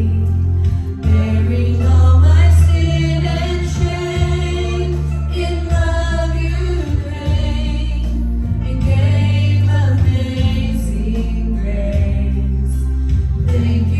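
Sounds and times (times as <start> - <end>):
steady bass accompaniment: 0.0 - 13.9
voices singing worship song: 0.0 - 13.9.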